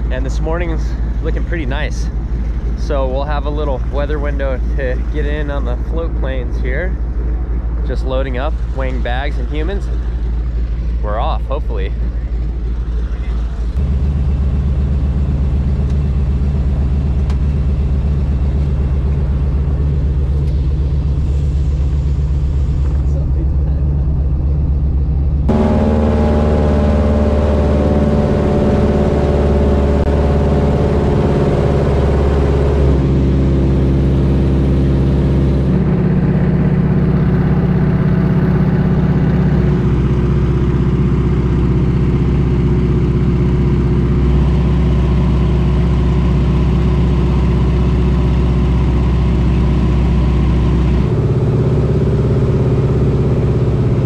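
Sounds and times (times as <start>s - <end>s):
plane engine and propeller droning: 0.0s - 54.0s.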